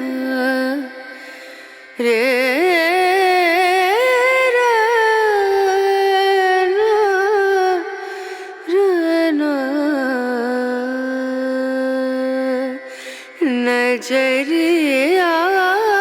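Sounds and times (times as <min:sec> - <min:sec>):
person singing with wavering notes: 0:00.0 - 0:16.0.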